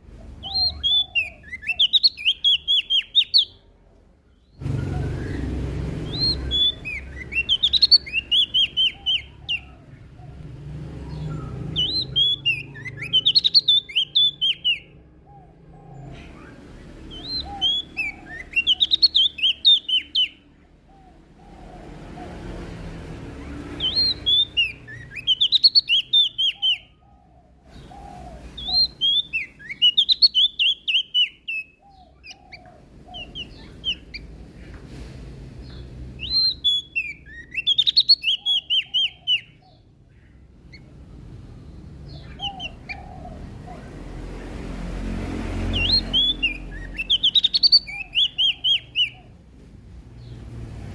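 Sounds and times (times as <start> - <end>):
bird singing sliding notes: 0.0 - 3.7, 4.3 - 34.8, 35.6 - 49.4.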